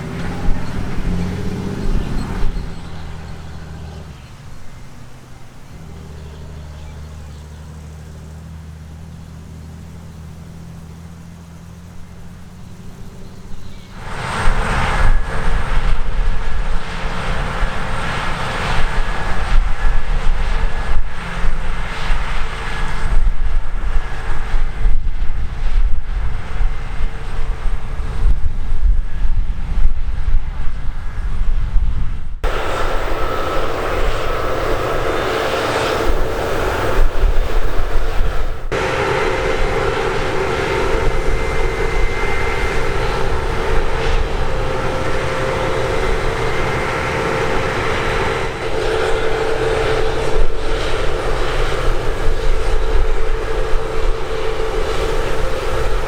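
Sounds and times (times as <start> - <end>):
heavy diesel machinery running: 0.0 - 28.3, 32.4 - 56.0
fan whine: 0.0 - 56.0.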